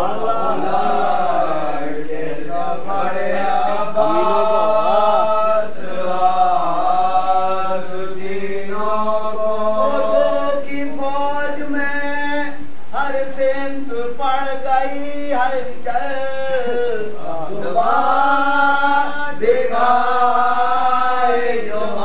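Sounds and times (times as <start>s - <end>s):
men chanting without instruments: 0.0s - 22.0s.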